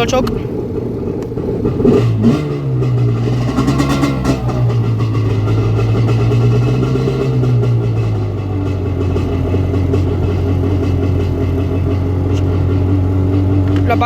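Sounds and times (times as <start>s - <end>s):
jet ski engine idling: 0.0s - 14.0s.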